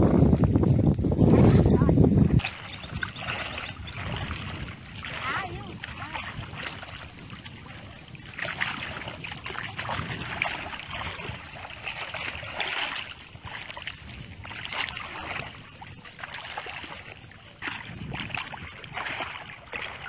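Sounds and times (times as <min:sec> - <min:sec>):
shallow water splashing: 0:01.2 - 0:20.0.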